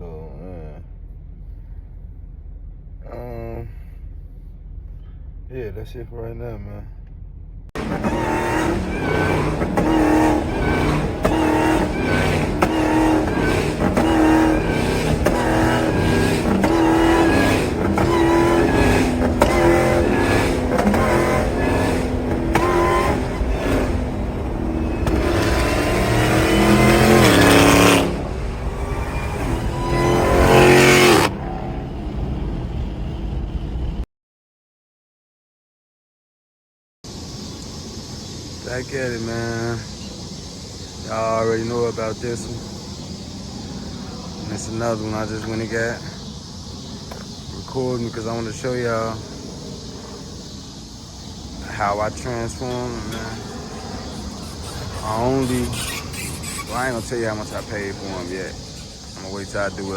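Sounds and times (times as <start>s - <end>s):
car engine revving: 7.0s - 34.0s, 37.1s - 59.9s.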